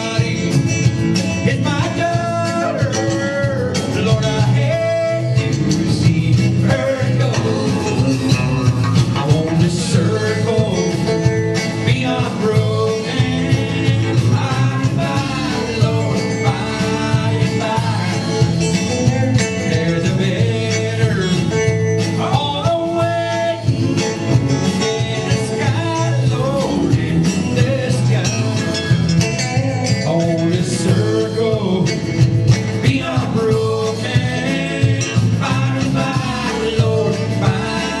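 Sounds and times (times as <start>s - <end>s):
live band playing: 0.0s - 38.0s
man singing: 0.0s - 38.0s.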